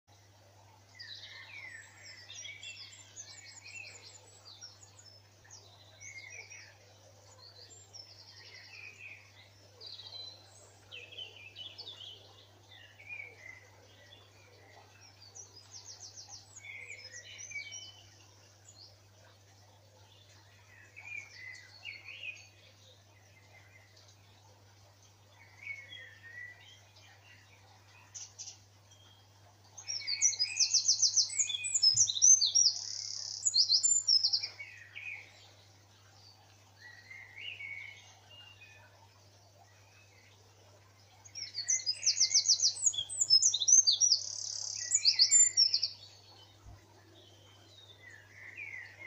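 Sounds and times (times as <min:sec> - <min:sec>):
songbirds singing: 0:00.1 - 0:49.0.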